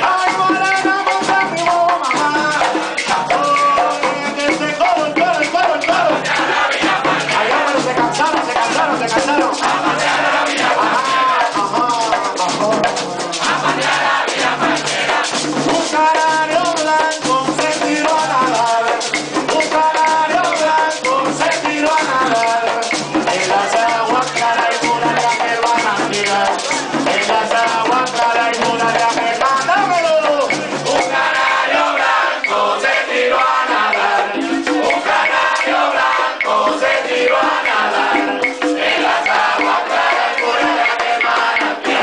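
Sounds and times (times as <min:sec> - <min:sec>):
frame drums beating rhythm: 0:00.0 - 0:42.0
voices singing: 0:00.0 - 0:42.0.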